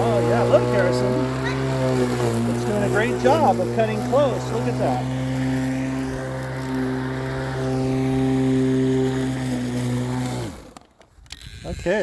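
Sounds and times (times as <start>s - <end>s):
electric lawnmower humming: 0.0s - 12.0s
motor spinning down: 0.0s - 12.0s.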